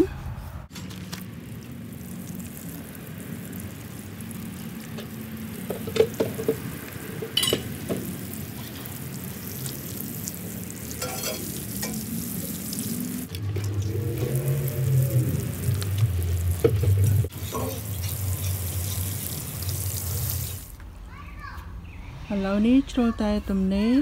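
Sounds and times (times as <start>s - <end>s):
water spraying onto plants: 0.7s - 20.8s.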